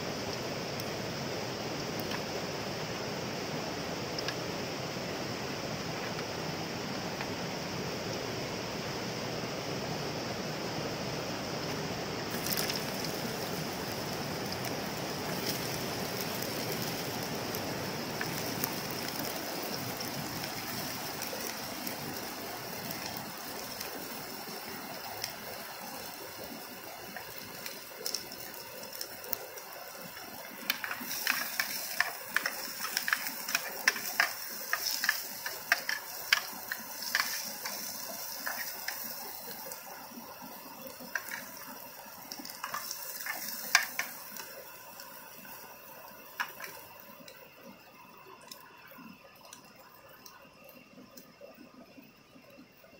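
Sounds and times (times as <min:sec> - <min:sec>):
stream water rushing: 0:00.0 - 0:52.8.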